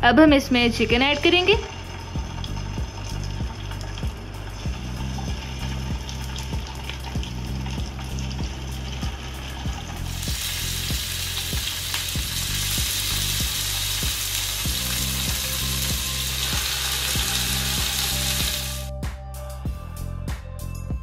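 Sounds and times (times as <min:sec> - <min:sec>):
background music with steady beat: 0:00.0 - 0:21.0
chicken sizzling in hot oil: 0:01.1 - 0:18.9.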